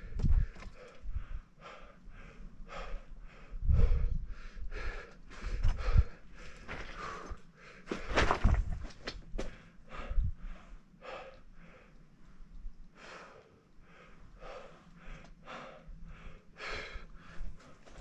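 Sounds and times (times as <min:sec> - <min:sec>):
person breathing hard: 0:00.0 - 0:08.3, 0:09.4 - 0:12.0, 0:12.9 - 0:18.0.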